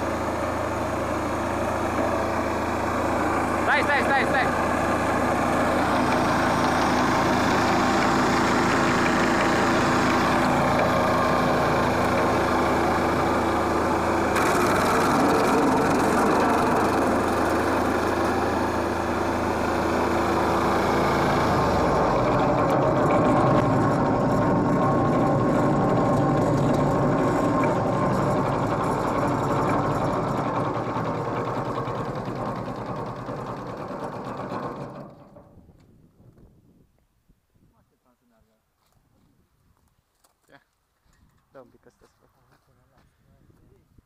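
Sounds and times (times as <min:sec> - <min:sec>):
wood chipper running: 0:00.0 - 0:35.9.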